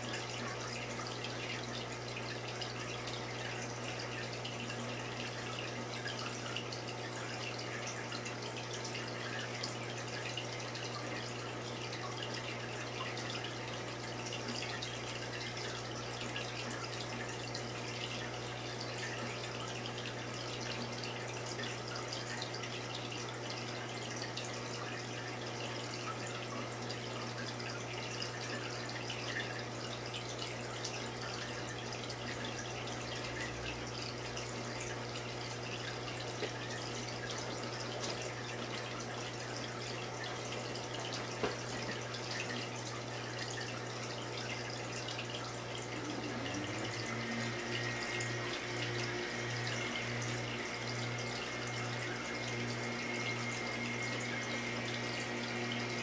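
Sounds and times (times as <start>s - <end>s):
low equipment hum: 0.0s - 56.0s
small drips: 0.0s - 56.0s
water trickling and splashing: 0.0s - 56.0s.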